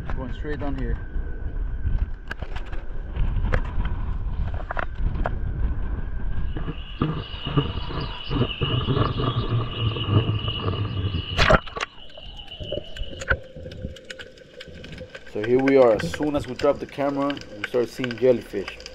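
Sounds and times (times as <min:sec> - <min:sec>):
wind buffeting microphone: 0:00.0 - 0:18.6
muffled underwater sound: 0:00.0 - 0:18.9.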